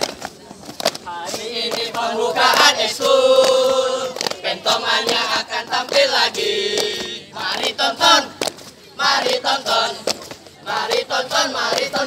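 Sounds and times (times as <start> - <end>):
boys chanting a cheer: 1.1 - 8.4, 9.0 - 12.0.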